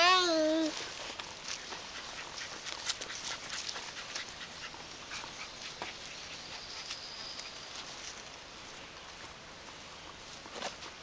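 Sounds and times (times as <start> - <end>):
puppies scuffling in grass: 0.0 - 11.0.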